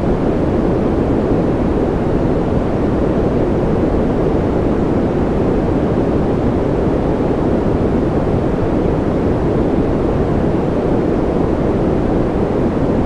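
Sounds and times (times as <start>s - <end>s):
deep white noise: 0.0s - 13.0s.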